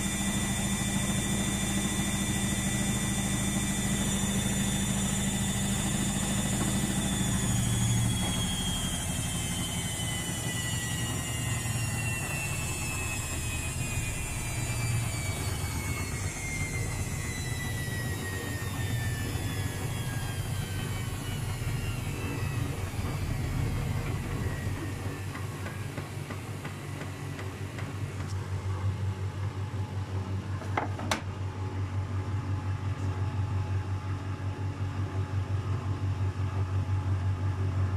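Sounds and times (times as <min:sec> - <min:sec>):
drum rumble rhythmic pulsing: 0:00.0 - 0:30.7
washing machine motor whine: 0:00.0 - 0:37.9.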